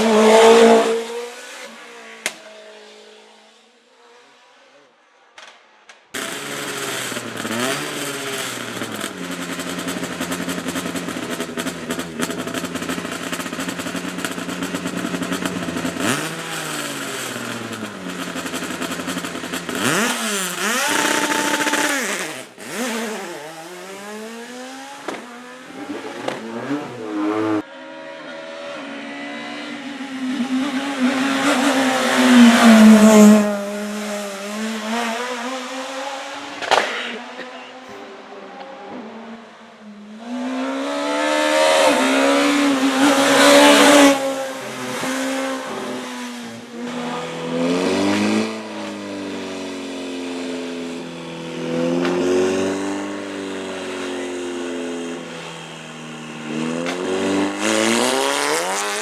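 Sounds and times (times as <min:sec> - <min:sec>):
racing car engines at full throttle: 0:00.0 - 0:03.4, 0:06.2 - 0:59.0.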